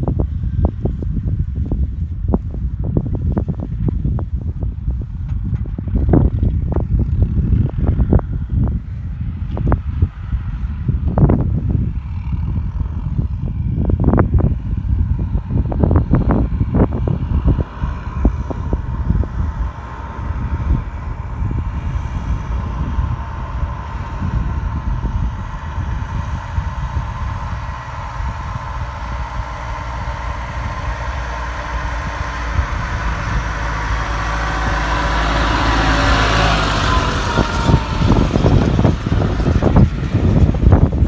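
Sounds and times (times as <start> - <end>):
tractor engine running: 0.0 - 41.0
wind buffeting microphone: 0.0 - 41.0.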